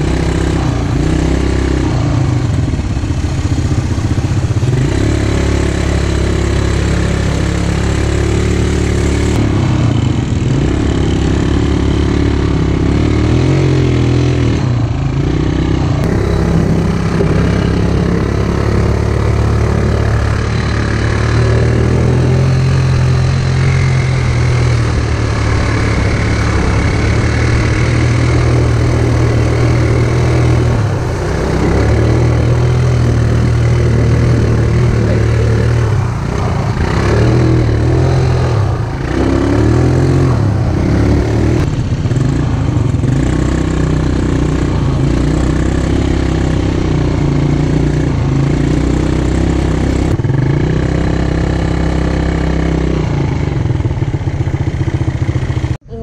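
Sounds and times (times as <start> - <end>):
quad bike engine: 0.0 - 56.0.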